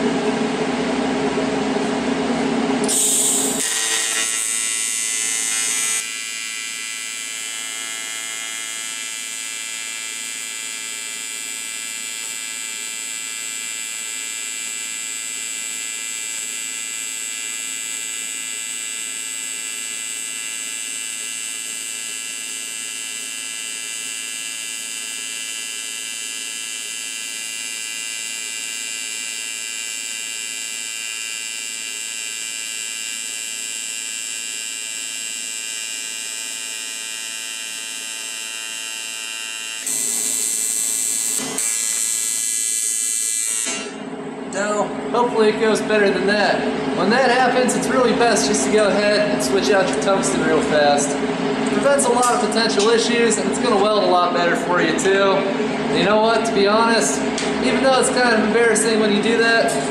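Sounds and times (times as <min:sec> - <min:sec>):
welding arc buzzing: 0:02.8 - 0:59.9.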